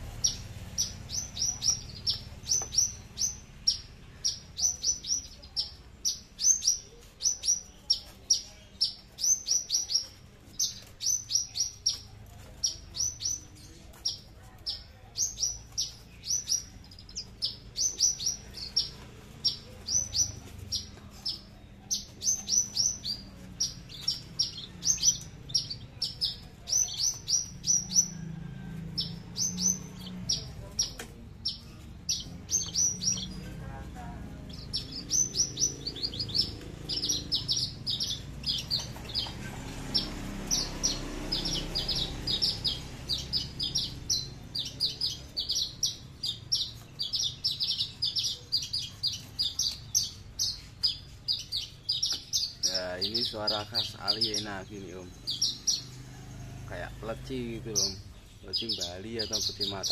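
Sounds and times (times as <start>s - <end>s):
bush lark singing: 0.0s - 56.0s, 56.7s - 59.9s.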